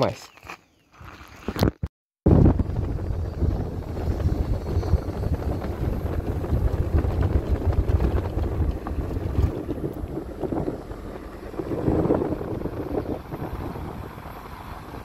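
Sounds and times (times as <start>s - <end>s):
wind buffeting microphone: 2.2s - 15.0s
road and engine rumble: 2.3s - 15.0s.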